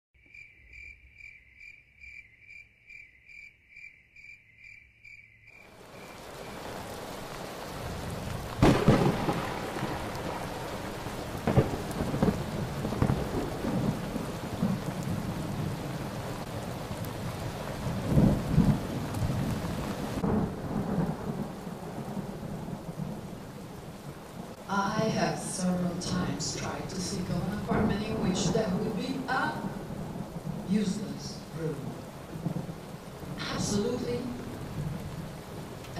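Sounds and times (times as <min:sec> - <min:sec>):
rain falling: 0:05.5 - 0:35.9
thunder claps and rumbles: 0:05.7 - 0:35.9.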